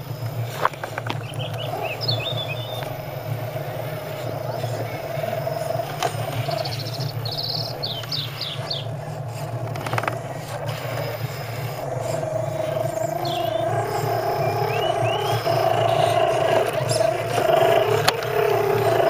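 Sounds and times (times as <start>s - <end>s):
songbird chirping: 0.0s - 19.0s
toy truck motor whining: 0.0s - 19.0s.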